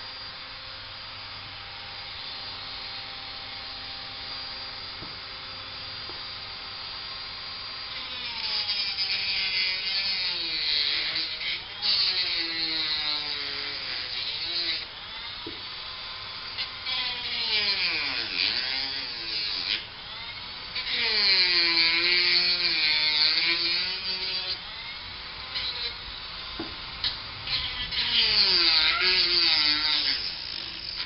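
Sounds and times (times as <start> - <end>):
handheld power tool grinding: 6.0 - 31.0.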